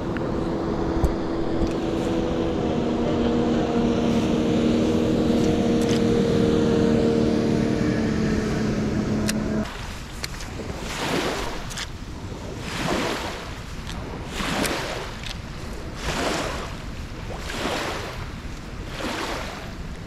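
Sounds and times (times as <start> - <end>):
motorboat engine running: 0.0 - 20.0.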